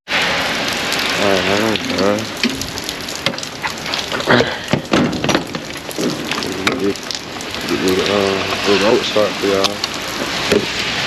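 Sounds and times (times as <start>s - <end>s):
rain falling on a car: 0.1s - 11.0s.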